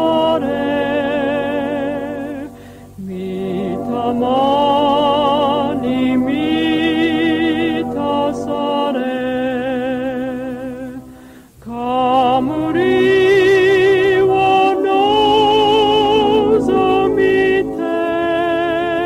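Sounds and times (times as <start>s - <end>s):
low sustained accompaniment: 0.0s - 19.0s
person singing a hymn slowly: 0.0s - 19.0s.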